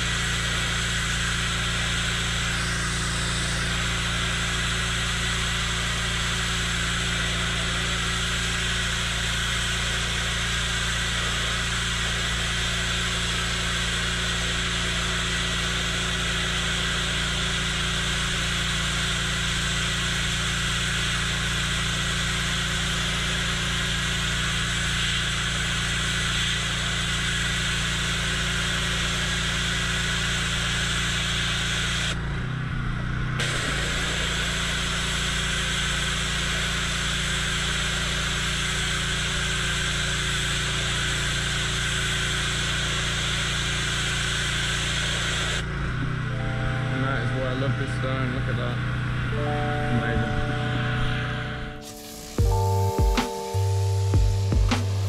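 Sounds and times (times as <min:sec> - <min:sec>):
pressure washer jet spraying stone: 0:00.0 - 0:32.2, 0:33.4 - 0:45.9, 0:51.8 - 0:55.0
pressure washer machine hum: 0:00.0 - 0:55.0.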